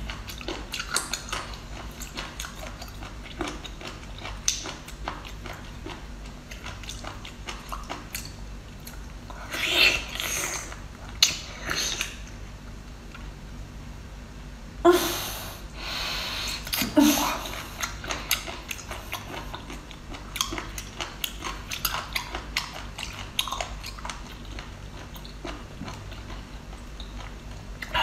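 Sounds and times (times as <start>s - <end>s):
wet chewing: 0.0s - 12.4s, 16.6s - 28.0s.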